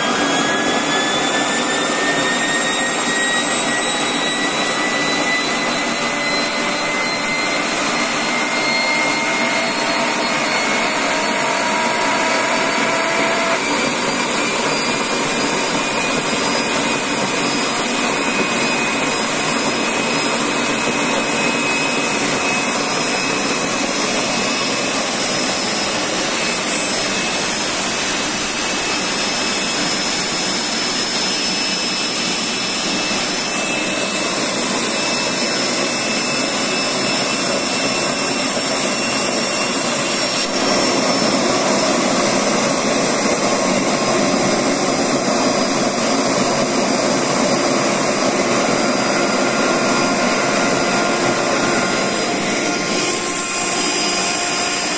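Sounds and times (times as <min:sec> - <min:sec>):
turbine engine whine: 0:00.0 - 0:54.9.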